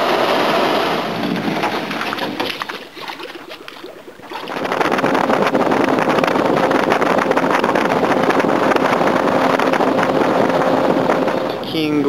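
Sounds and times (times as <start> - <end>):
outboard motor running: 0.0 - 12.0
wind noise on microphone: 0.0 - 12.0.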